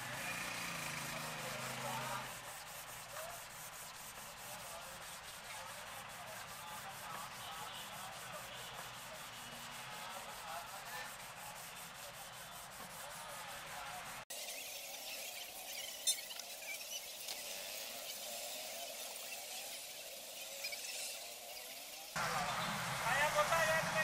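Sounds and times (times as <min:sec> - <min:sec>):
wet sanding plastic lens: 0:00.1 - 0:22.3.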